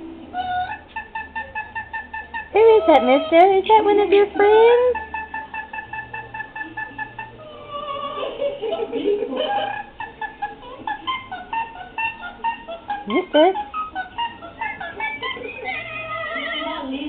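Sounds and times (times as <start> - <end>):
opera-style music through laptop speakers: 0.0 - 17.0.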